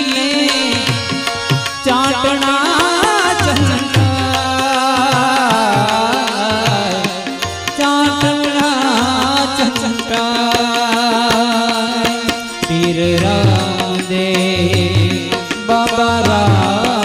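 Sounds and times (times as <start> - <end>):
harmonium holding notes: 0.0 - 17.0
person singing: 0.0 - 17.0
tabla rhythm: 0.0 - 17.0.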